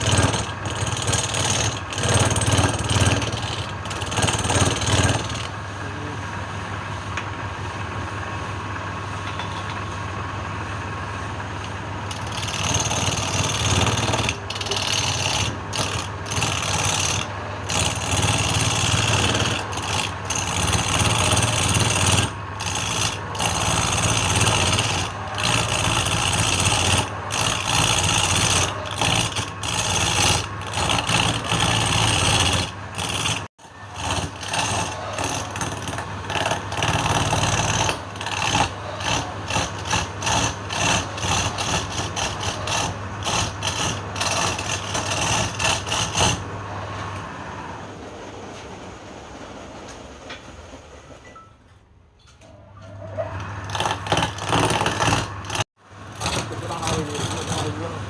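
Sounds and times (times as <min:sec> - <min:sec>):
tool cutting spinning wood: 0:00.0 - 0:06.1, 0:11.5 - 0:47.3, 0:53.0 - 0:58.0
wood lathe motor running: 0:00.0 - 0:06.4, 0:11.3 - 0:46.8, 0:53.3 - 0:58.0.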